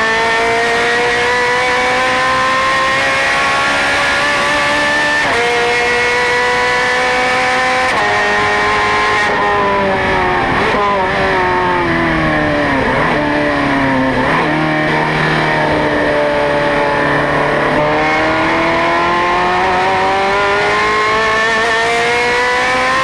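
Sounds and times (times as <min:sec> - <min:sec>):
racing car engine: 0:00.0 - 0:23.0.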